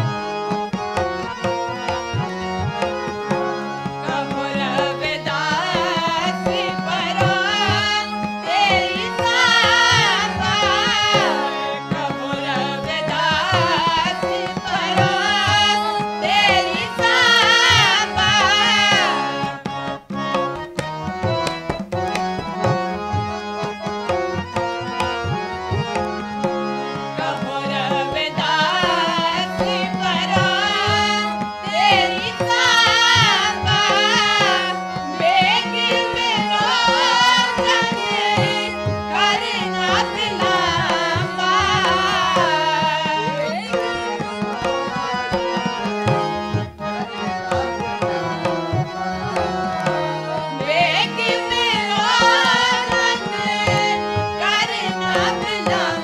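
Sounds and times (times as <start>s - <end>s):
harmoniums playing: 0.0s - 56.0s
tabla drumming: 0.0s - 56.0s
voices singing: 0.0s - 56.0s.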